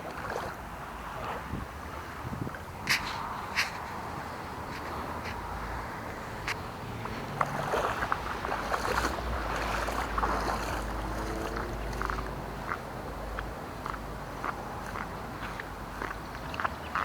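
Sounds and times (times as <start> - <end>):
floodwater splashing and sloshing: 0.0 - 17.0.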